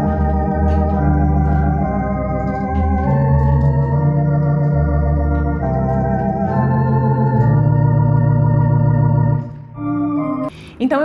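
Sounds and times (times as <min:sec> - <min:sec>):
electronic organ chords: 0:00.0 - 0:10.8
organ pedal bass notes: 0:00.0 - 0:11.0.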